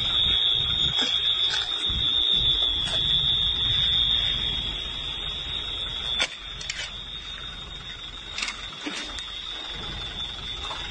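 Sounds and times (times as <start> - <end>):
high-pitched electronic alarm tone: 0.0 - 10.9
low rumbling noise: 0.0 - 10.9.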